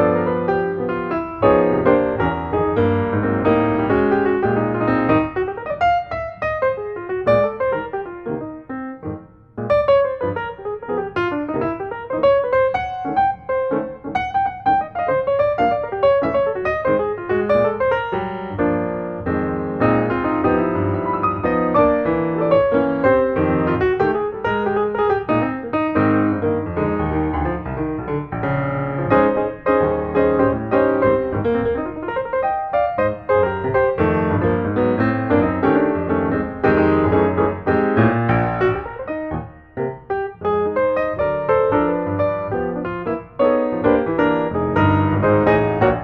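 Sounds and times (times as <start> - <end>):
piano music: 0.0 - 46.0.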